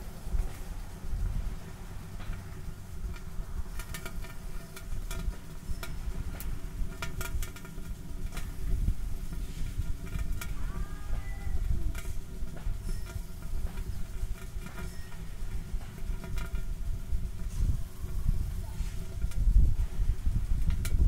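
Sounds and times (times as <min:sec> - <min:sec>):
fire crackling and popping: 0:00.0 - 0:21.0
fire low rumble: 0:00.0 - 0:21.0.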